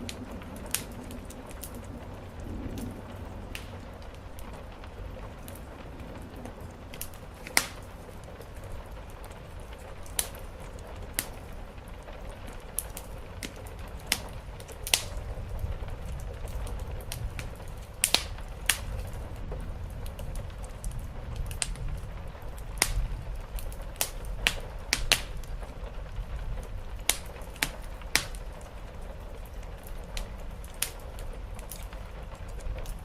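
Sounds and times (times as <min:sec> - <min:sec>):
soft hiss of rain: 0:00.0 - 0:33.0
steady low rumble: 0:00.0 - 0:33.0
wood fire crackling and popping: 0:00.0 - 0:33.0.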